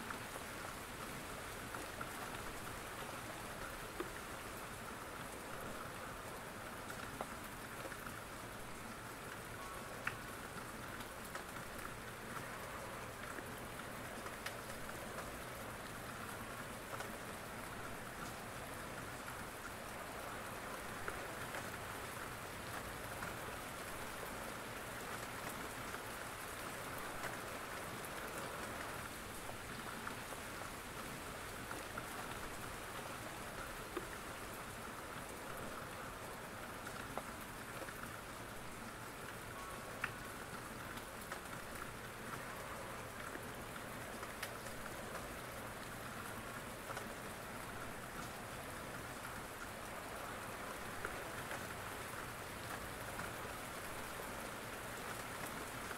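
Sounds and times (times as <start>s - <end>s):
light ticks of raindrops: 0.0s - 55.9s
steady rain: 0.0s - 55.9s.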